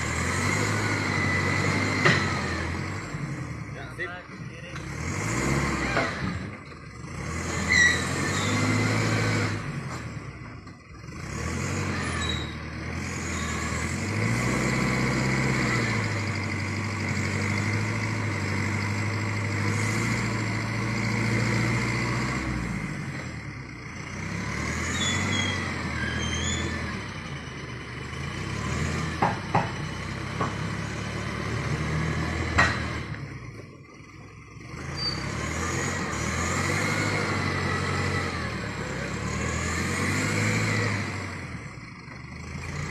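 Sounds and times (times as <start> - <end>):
vehicle engine under load: 0.0 - 42.9.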